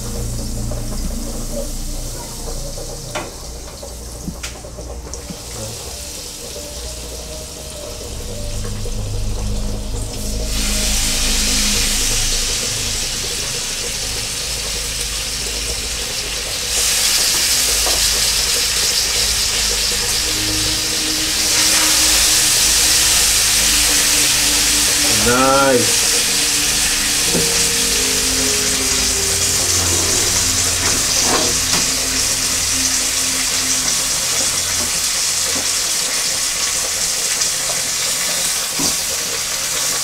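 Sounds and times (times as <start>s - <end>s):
fish sizzling in hot oil: 0.0s - 40.0s.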